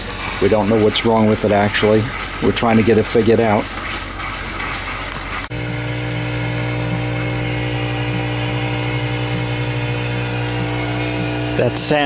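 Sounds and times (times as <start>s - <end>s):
generator engine hum: 0.0s - 12.0s.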